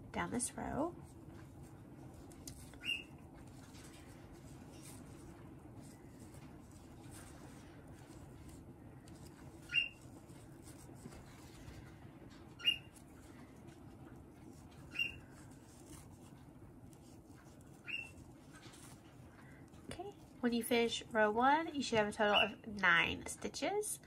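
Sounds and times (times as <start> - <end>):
faint room noise: 0.0 - 24.0.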